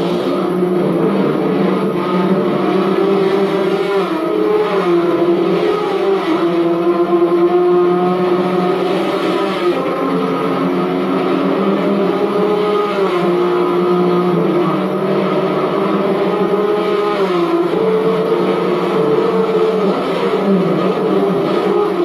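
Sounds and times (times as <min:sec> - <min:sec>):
racing car engines droning: 0:00.0 - 0:22.0.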